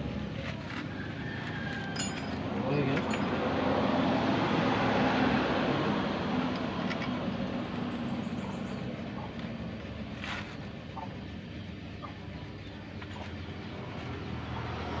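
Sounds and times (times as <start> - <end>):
motor vehicle passing by: 0.7 - 11.1, 13.2 - 15.0.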